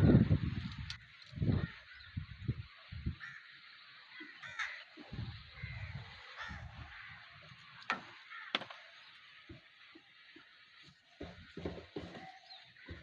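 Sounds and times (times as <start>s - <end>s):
crow cawing: 1.4s - 2.2s, 3.1s - 13.0s.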